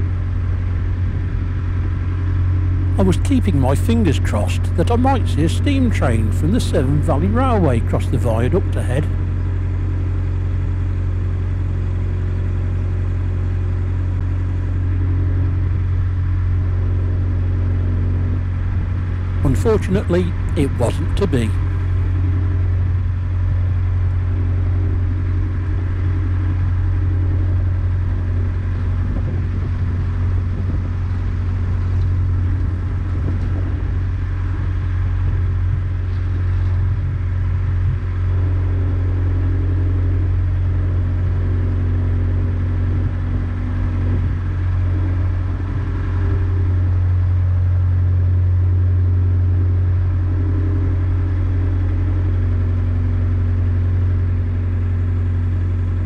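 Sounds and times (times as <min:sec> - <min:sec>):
boat diesel engine humming: 0:00.0 - 0:56.0.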